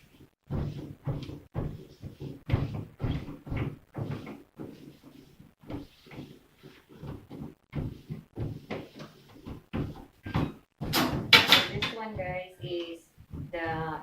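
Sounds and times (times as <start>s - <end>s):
fridge shelves and containers knocking: 0.5s - 14.0s.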